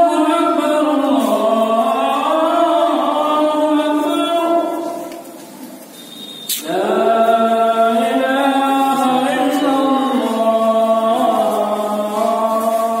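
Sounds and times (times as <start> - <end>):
person chanting recitation: 0.0 - 5.5, 6.5 - 13.0.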